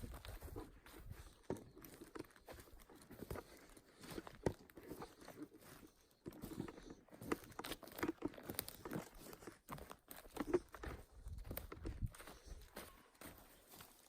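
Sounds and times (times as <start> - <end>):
footsteps crunching leaves and twigs: 0.0 - 14.0.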